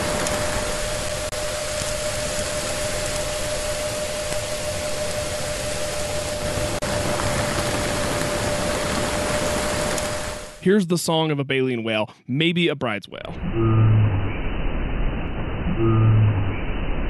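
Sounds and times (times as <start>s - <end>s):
underwater propeller noise with hum: 0.0s - 10.6s, 13.4s - 17.0s.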